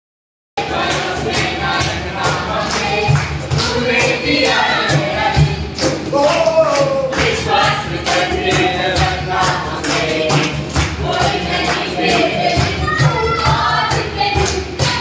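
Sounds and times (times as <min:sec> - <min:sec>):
group singing worship song: 0:00.6 - 0:15.0
hand-clapping on the beat: 0:00.6 - 0:15.0.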